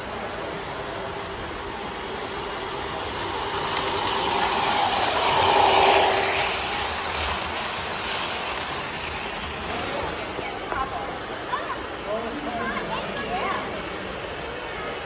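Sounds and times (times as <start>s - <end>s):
model train running on rails: 0.0s - 15.0s.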